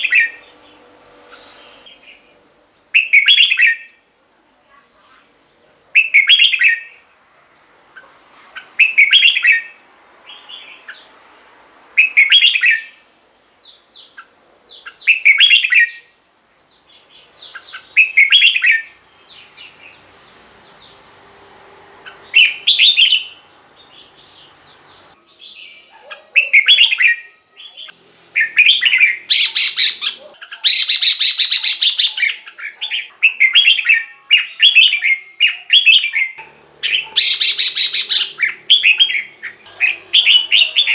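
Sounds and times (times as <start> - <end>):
bird singing: 0.0 - 21.2, 22.0 - 40.9.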